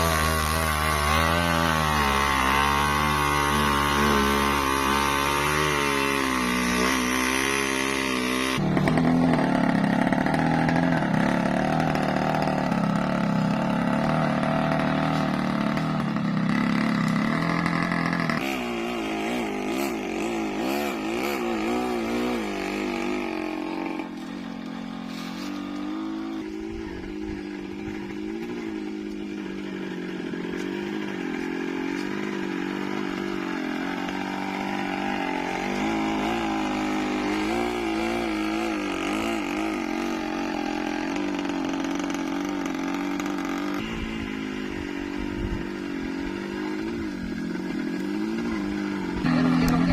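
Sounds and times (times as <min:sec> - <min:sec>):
two-stroke motorcycle engine: 0:00.0 - 0:49.9.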